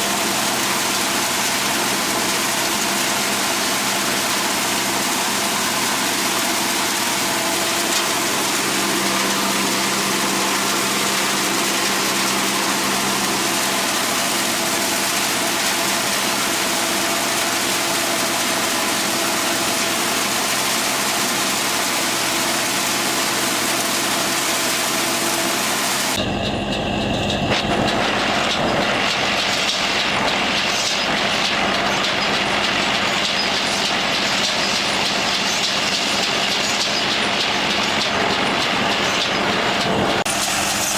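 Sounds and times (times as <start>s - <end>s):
harvesting machine running: 0.0s - 40.9s.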